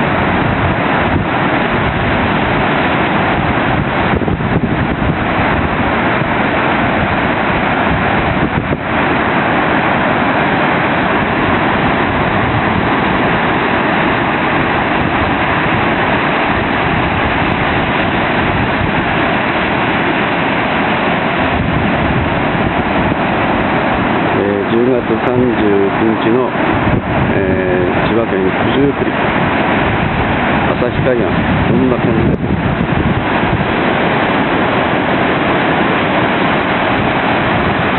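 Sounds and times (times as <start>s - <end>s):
surf rushing: 0.0s - 37.9s
wind rumbling on microphone: 0.0s - 37.9s.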